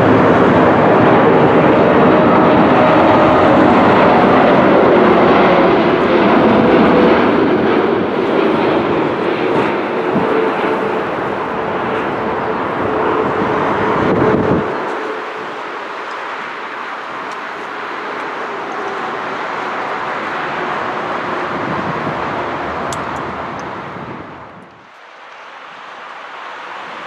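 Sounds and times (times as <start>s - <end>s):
wind on microphone: 0.0s - 24.9s
jet engines roaring: 0.0s - 27.0s.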